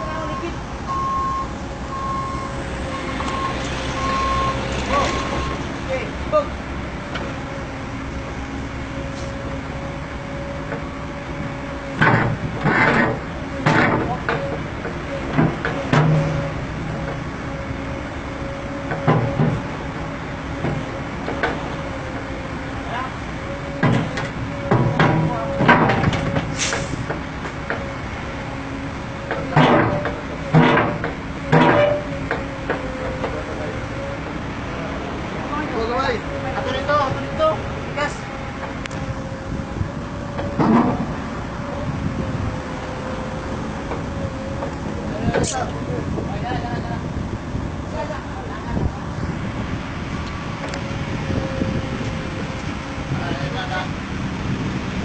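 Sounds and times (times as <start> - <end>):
diesel machinery engine running: 0.0 - 55.0.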